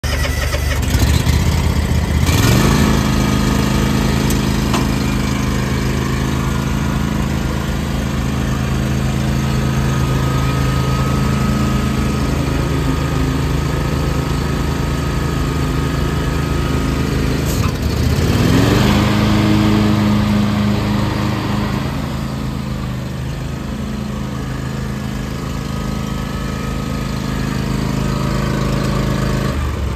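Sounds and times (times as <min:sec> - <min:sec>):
lawn tractor engine running: 0:00.0 - 0:29.9.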